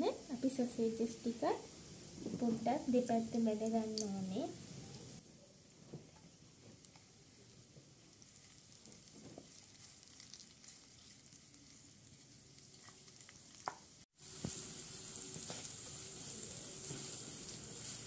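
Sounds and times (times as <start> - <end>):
sausages sizzling and crackling: 0.0 - 5.2, 6.8 - 18.0.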